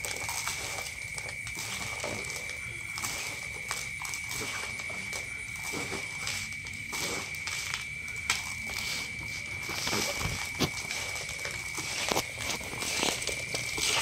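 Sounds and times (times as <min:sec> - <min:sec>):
wet gritty rustling of fish and salt: 0:00.0 - 0:14.0.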